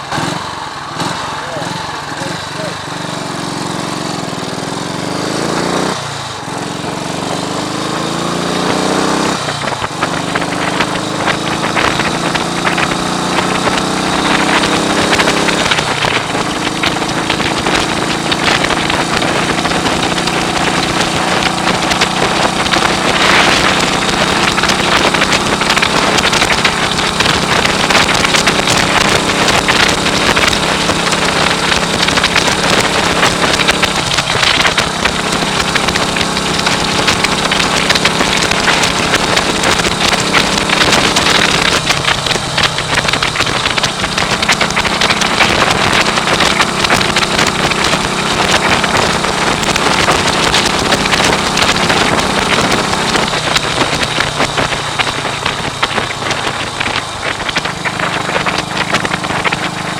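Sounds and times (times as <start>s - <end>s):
motorcycle engine accelerating: 0.0s - 59.9s
wind noise on microphone: 5.6s - 59.9s.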